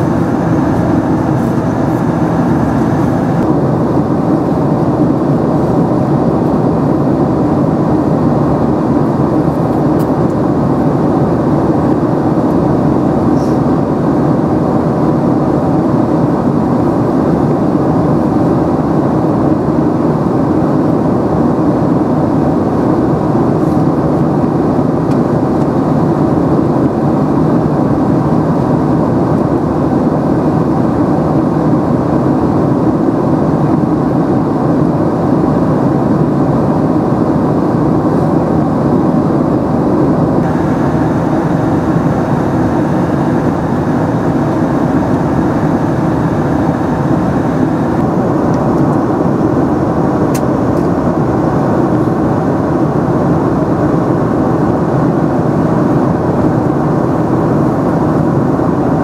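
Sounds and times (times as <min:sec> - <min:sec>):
airplane cabin engine roar: 0:00.0 - 0:59.0.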